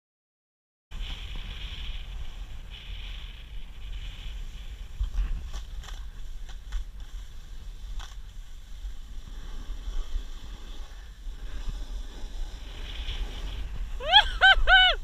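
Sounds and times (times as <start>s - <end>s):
wind buffeting microphone: 0.9s - 15.0s
skis scraping over crusted snow: 1.0s - 14.1s.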